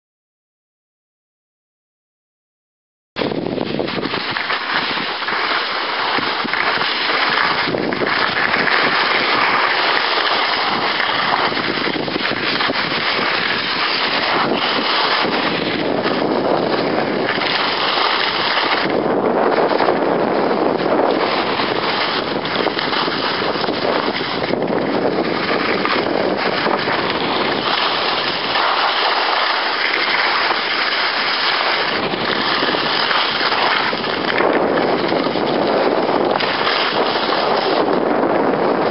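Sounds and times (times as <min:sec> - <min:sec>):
skis hissing on snow: 0:03.2 - 0:38.0
wind rushing over microphone: 0:03.2 - 0:38.9.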